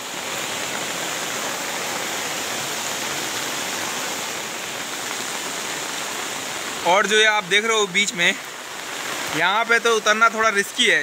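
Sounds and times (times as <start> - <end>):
floodwater rushing: 0.0 - 11.0
heavy rain on water: 0.0 - 11.0.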